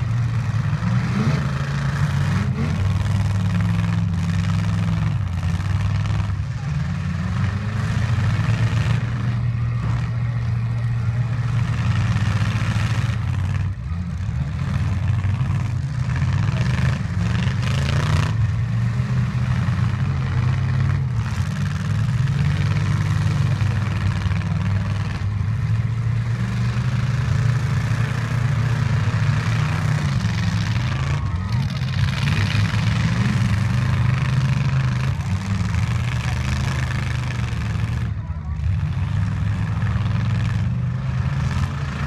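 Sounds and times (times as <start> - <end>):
truck engines revving: 0.0 - 42.0.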